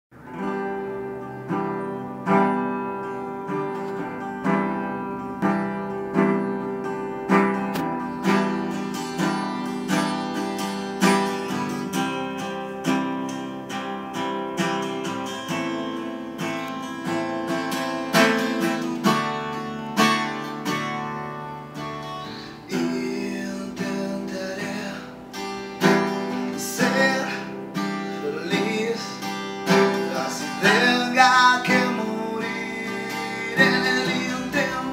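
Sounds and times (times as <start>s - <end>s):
acoustic guitar strumming: 0.1s - 34.9s.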